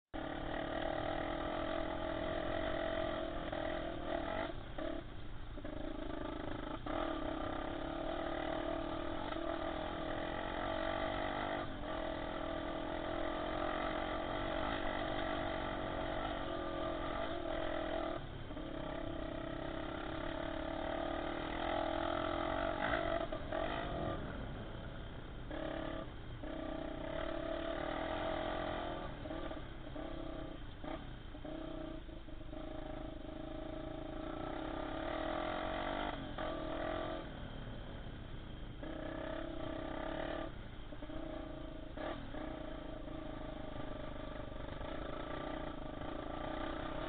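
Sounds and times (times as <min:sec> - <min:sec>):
motorcycle engine running: 0:00.2 - 0:47.0.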